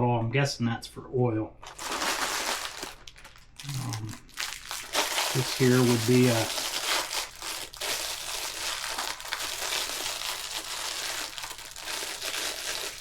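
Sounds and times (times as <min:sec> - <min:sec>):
plastic bag crinkling: 0:01.6 - 0:13.0.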